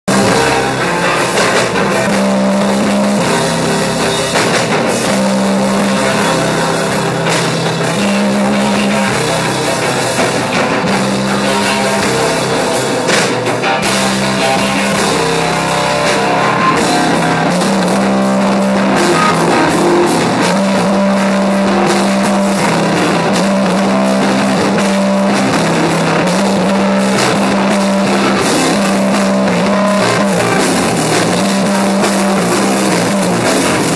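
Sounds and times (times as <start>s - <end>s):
heavy guitar and bass riff: 0.0s - 33.9s
drum kit with crashing cymbals: 0.1s - 33.9s.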